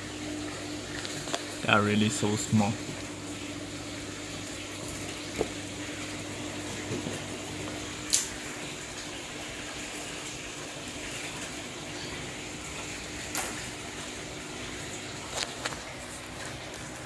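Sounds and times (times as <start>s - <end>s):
fish tank running water: 0.0s - 17.0s.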